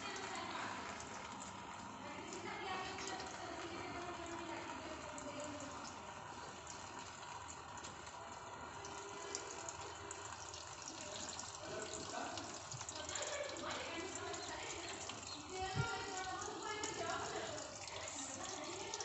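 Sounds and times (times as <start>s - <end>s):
water pouring into pot: 0.0s - 19.0s.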